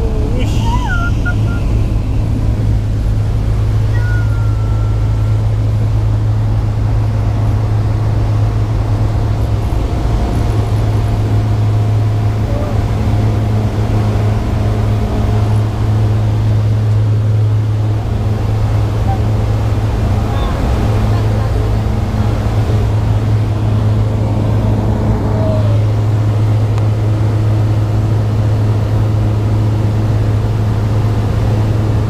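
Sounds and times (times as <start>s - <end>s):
propeller plane drone in cabin: 0.0s - 32.0s.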